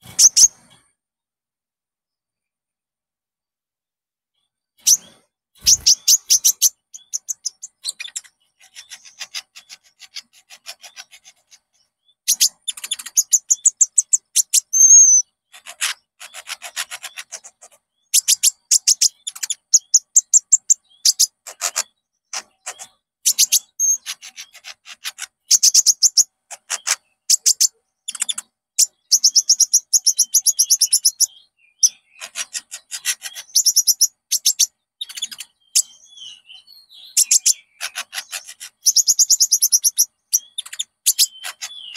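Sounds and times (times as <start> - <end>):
songbird chattering trills: 4.8 - 41.9.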